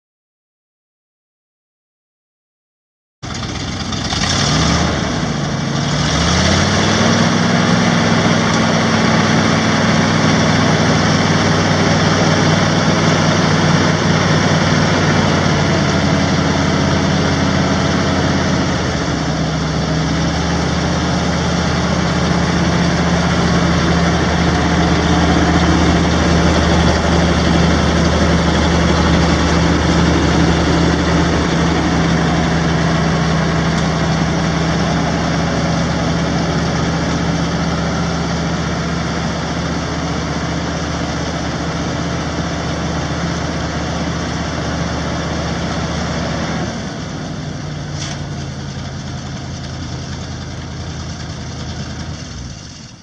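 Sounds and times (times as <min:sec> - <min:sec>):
truck engine starting and idling: 0:03.2 - 0:53.0.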